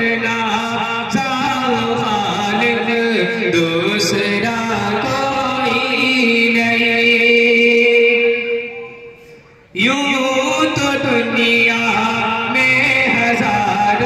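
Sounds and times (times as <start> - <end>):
man singing chant-like melody: 0.0 - 9.1, 9.7 - 14.0.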